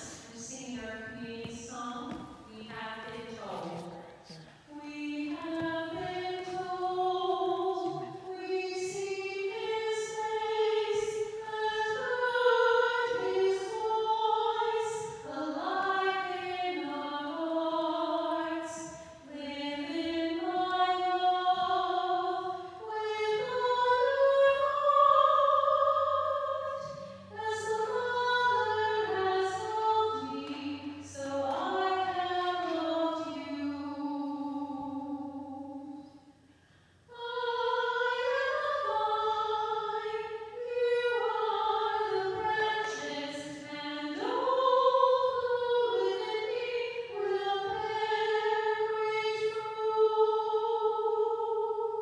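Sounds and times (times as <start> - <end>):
slow hymn singing: 0.0 - 52.0.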